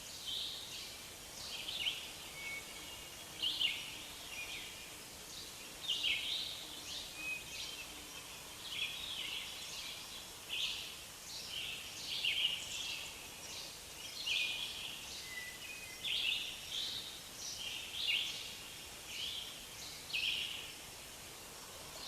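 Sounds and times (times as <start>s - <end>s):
songbirds chirping and trilling: 0.0s - 22.0s
steady soft hiss: 0.0s - 22.0s.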